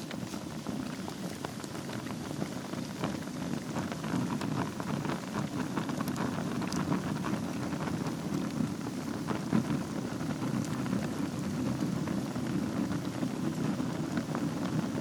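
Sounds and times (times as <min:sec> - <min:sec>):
fire crackling: 0:00.0 - 0:15.0
fire flames rumbling: 0:00.0 - 0:15.0.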